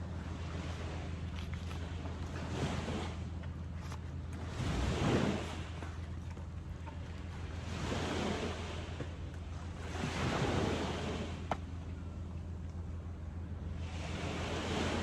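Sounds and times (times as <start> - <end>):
ocean waves washing onto shore: 0.0 - 6.2, 7.0 - 11.8, 13.7 - 15.0
wind rumble on microphone: 0.0 - 15.0.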